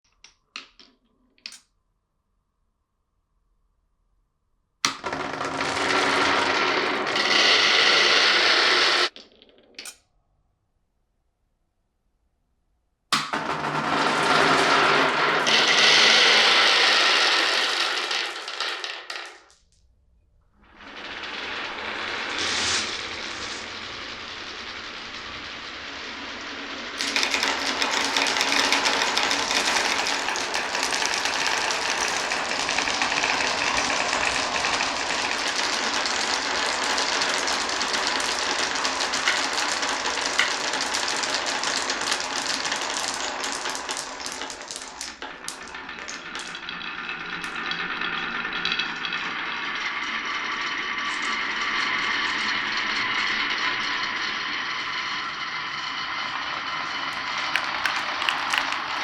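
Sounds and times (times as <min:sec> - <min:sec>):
marbles rolling and clicking on tracks: 0:00.1 - 0:01.6, 0:04.9 - 0:10.0, 0:13.2 - 0:19.8, 0:20.6 - 0:59.0.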